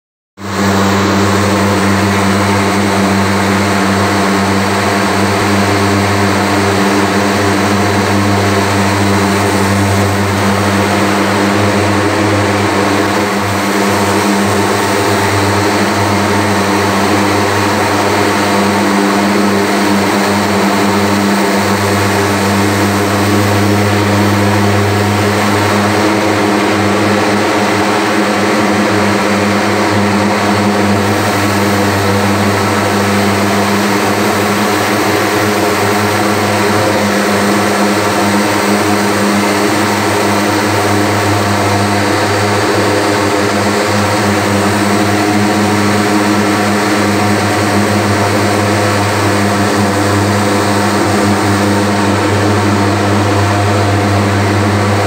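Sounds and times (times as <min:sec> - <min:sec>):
fogging machine buzzing drone: 0:00.4 - 0:55.0.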